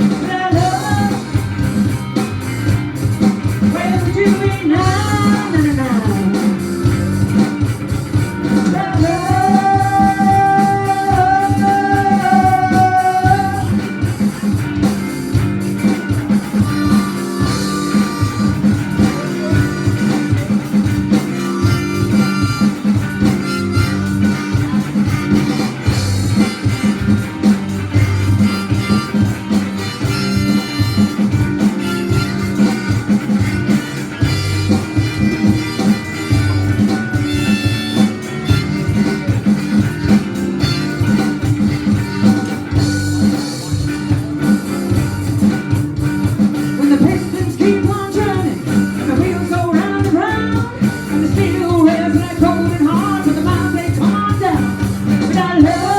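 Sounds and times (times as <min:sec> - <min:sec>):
band playing instrumental: 0:00.0 - 0:55.9.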